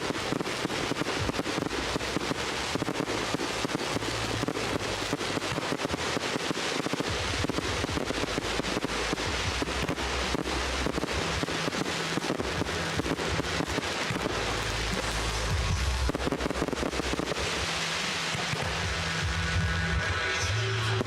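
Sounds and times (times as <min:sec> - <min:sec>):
fireworks cracking and banging: 0:00.0 - 0:21.0.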